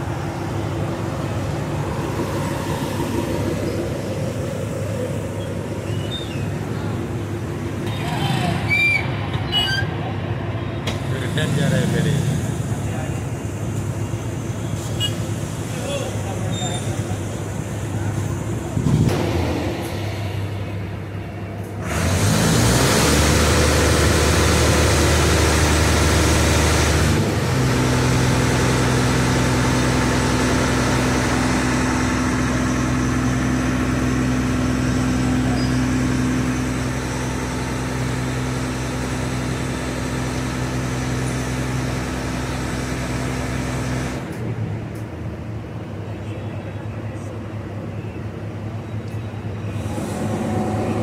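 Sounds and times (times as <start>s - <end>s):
ferry diesel engine droning: 0.0s - 51.0s.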